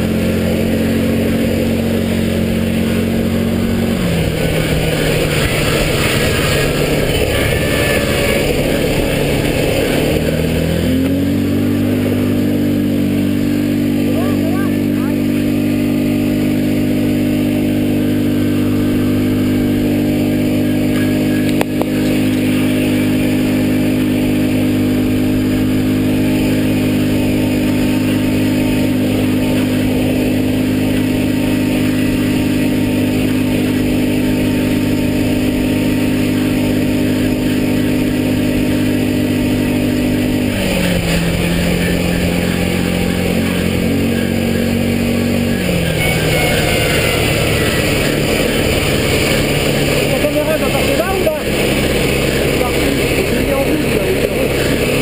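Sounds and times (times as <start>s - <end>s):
buggy engine running: 0.0s - 55.0s.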